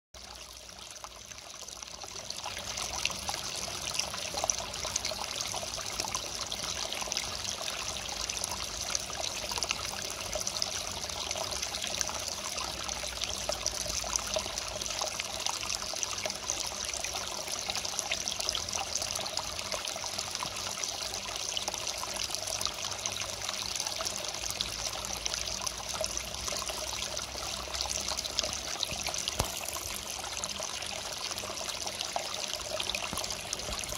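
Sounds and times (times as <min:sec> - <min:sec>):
water splashing into pond: 0:00.2 - 0:33.9.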